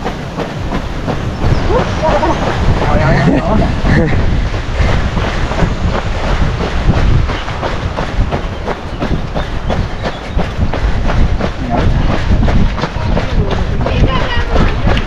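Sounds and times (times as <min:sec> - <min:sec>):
running footsteps: 0:00.0 - 0:15.0
wind rumble on microphone: 0:00.0 - 0:15.0.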